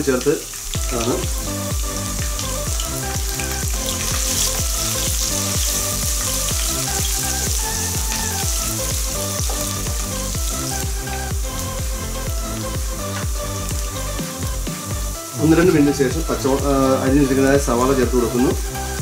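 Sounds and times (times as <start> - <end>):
food sizzling in hot oil: 0.0 - 19.0
background music with a beat: 0.7 - 19.0.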